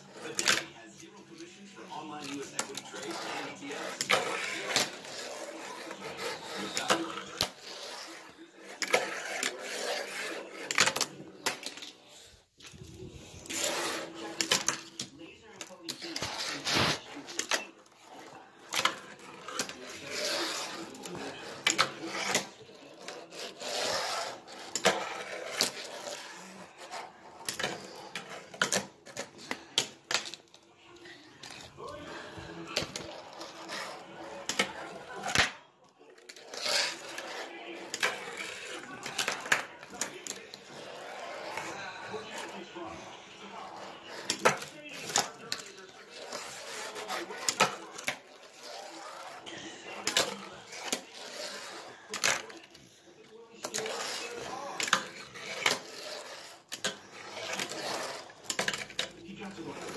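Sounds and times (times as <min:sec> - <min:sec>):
fingerboard rolling scrape: 0:02.6 - 0:11.2, 0:12.9 - 0:15.0, 0:16.0 - 0:29.6, 0:31.4 - 0:35.4, 0:36.3 - 0:42.6, 0:43.6 - 0:52.5, 0:53.6 - 0:59.9.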